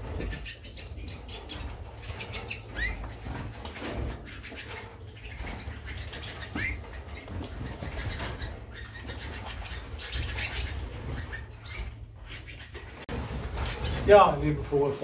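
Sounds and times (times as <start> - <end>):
birds fluttering wingbeats: 0.0 - 15.0
canaries chirping: 0.0 - 15.0.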